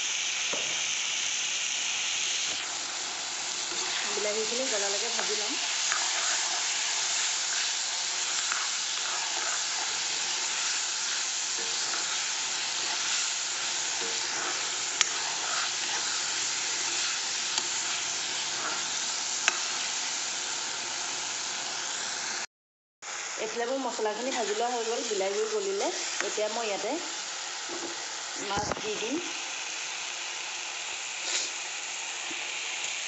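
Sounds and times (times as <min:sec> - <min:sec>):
masala sizzling in hot oil: 0:00.0 - 0:33.0.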